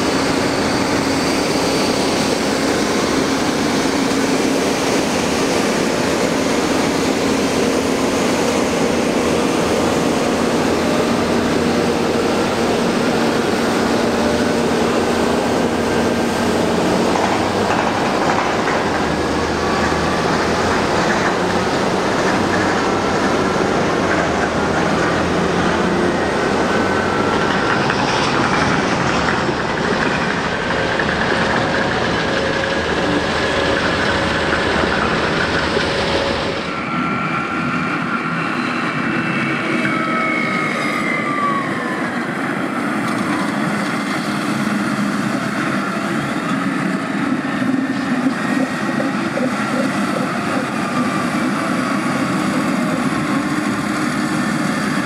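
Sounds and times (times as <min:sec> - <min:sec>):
dump truck diesel engine: 0:00.0 - 0:39.8, 0:41.3 - 0:55.0.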